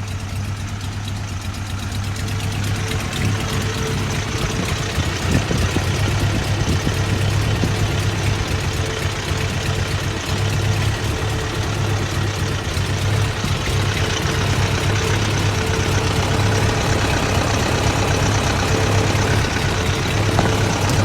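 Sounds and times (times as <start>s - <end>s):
engine rough idling: 0.0s - 21.0s.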